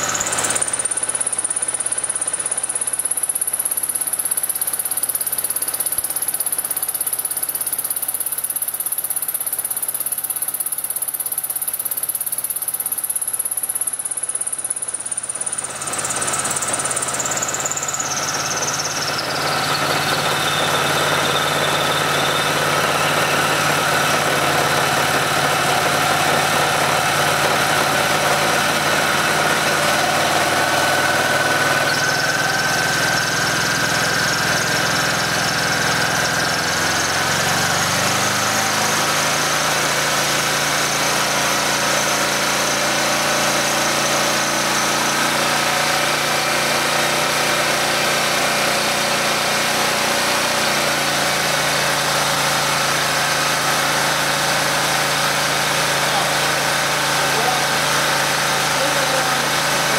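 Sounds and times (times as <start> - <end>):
small generator engine droning: 0.0 - 59.9.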